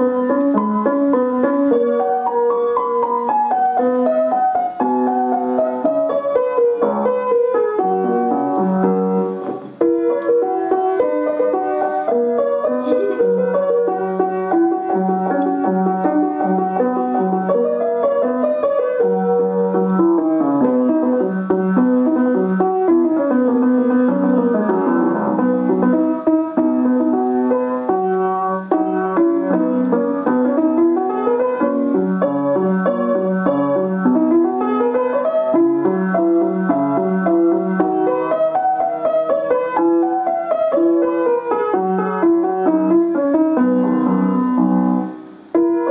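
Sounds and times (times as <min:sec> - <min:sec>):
piano piece: 0:00.0 - 0:45.9.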